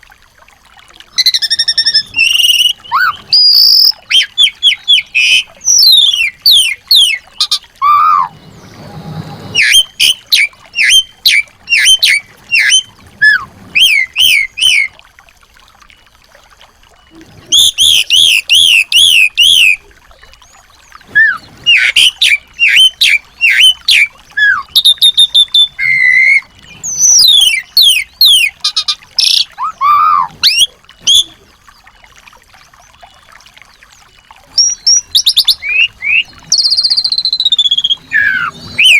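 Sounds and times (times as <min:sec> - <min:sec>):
songbirds chirping and trilling: 0:01.3 - 0:14.9, 0:17.2 - 0:38.9.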